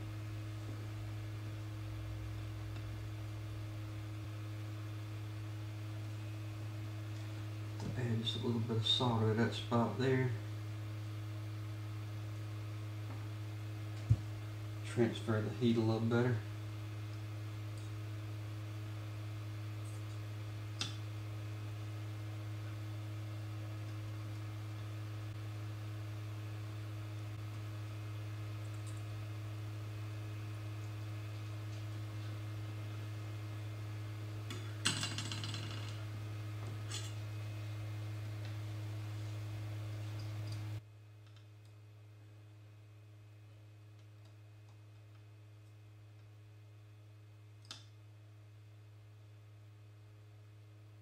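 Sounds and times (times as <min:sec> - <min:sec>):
low electrical hum: 0:00.0 - 0:51.0.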